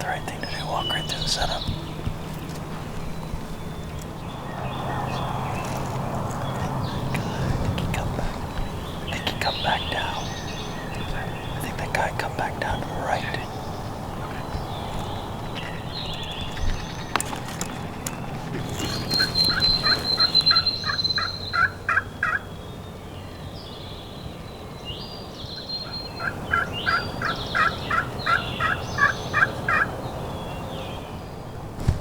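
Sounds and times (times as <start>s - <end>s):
songbirds calling: 0.0s - 32.0s.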